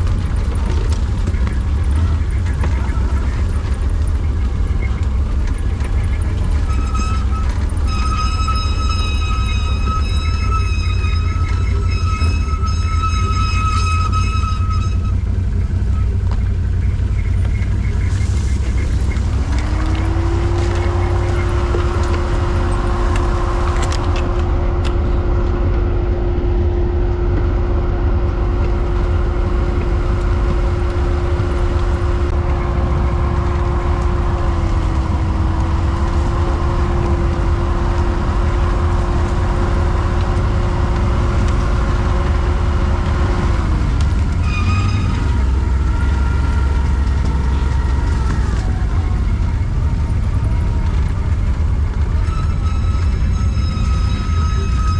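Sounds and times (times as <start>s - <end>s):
quad bike engine running: 0.0s - 12.4s, 15.0s - 52.3s
high steady whine: 0.0s - 54.9s
wind rumble on microphone: 0.0s - 54.9s.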